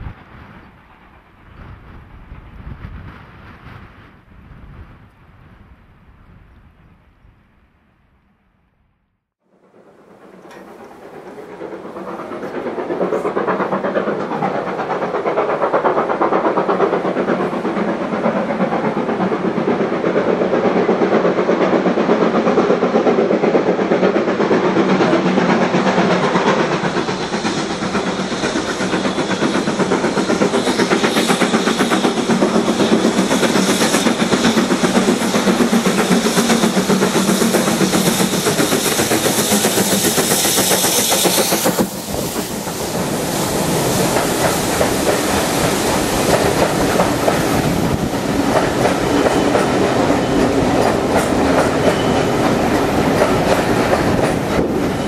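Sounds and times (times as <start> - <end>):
steam locomotive passing: 0.0 - 6.4, 9.4 - 55.0
steam hiss: 9.6 - 55.0.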